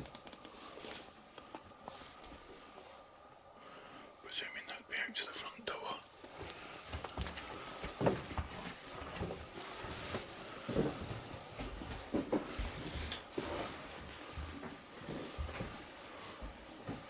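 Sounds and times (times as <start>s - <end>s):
footsteps in a room: 0.0s - 3.2s, 6.1s - 17.0s.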